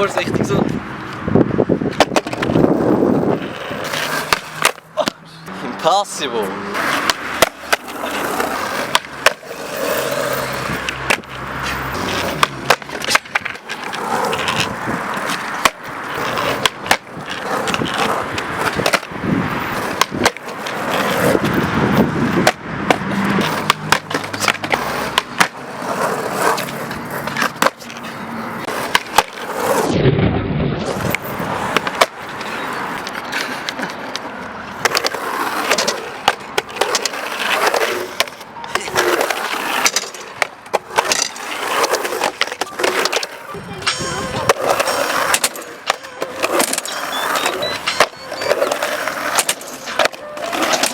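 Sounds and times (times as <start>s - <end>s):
skateboard wheels rolling on pavement: 0.0s - 50.9s
skateboard clacking on ground: 1.8s - 29.9s, 30.8s - 50.9s.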